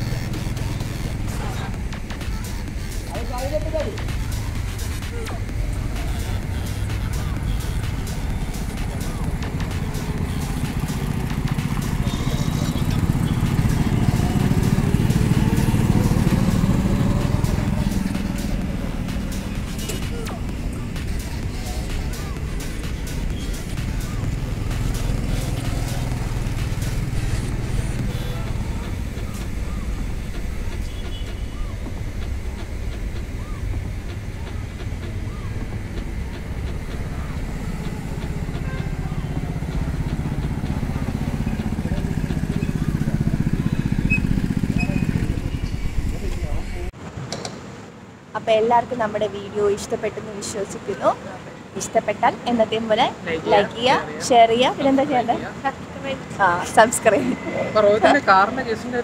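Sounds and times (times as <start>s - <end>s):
go-kart engine buzzing: 0.0s - 47.5s.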